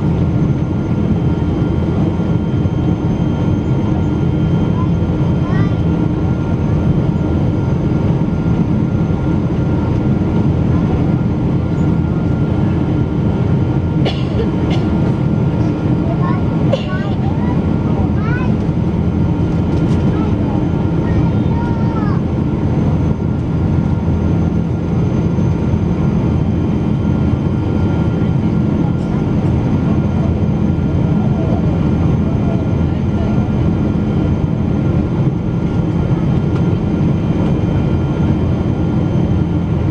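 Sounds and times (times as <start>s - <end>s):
airliner engines rumbling in cabin: 0.0s - 39.9s.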